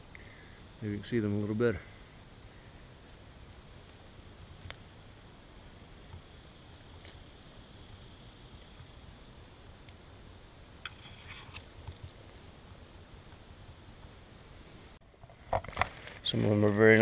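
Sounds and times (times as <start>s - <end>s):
insects singing: 0.0s - 17.0s.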